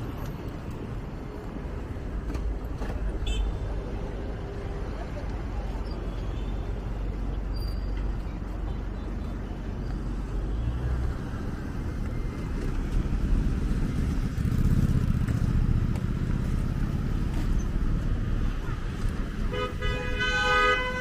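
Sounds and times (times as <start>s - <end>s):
traffic passing: 0.0s - 21.0s.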